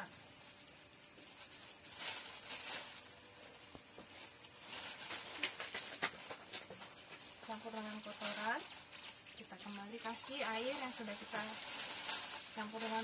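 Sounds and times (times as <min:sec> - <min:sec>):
manure pattering into bag: 0:00.0 - 0:13.0
plastic bag rustling: 0:00.0 - 0:13.0.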